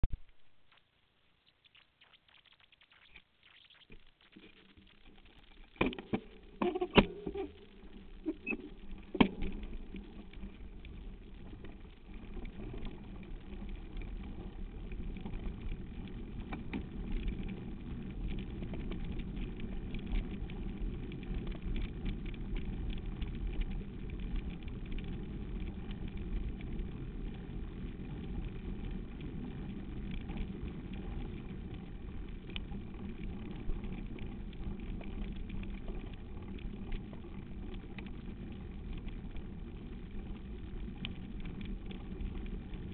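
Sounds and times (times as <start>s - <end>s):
bike on rough dirt track: 4.0s - 42.9s
rattles and clicks from bike: 4.4s - 42.9s.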